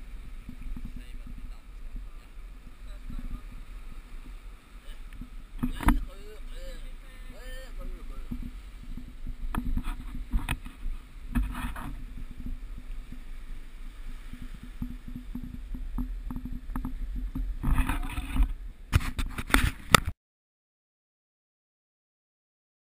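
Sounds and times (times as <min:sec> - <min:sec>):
water rushing past hull: 0:00.0 - 0:20.0
wind rumbling on microphone: 0:00.0 - 0:20.1.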